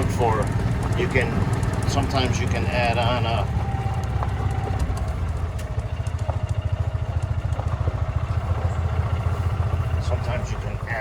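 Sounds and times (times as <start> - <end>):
golf cart engine running: 0.0 - 11.0.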